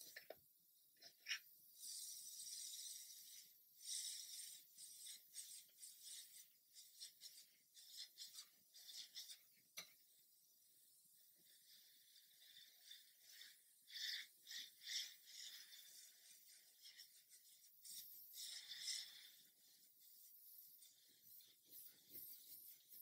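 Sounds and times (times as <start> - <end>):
airbrush hissing: 1.6 - 23.0.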